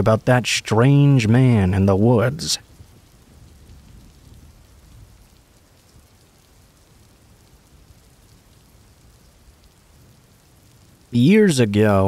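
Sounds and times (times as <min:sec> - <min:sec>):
faint rain hiss: 0:00.0 - 0:12.0
rain drop ticks: 0:00.0 - 0:12.0.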